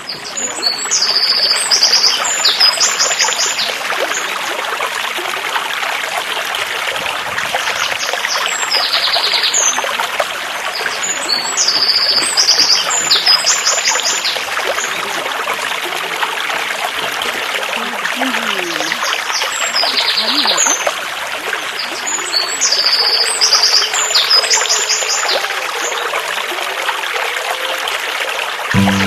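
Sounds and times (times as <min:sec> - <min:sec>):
stream water trickling: 0:00.0 - 0:28.8.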